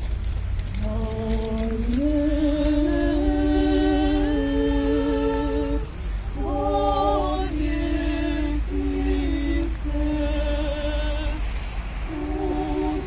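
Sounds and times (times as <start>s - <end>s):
women singing a cappella: 0.8s - 13.0s.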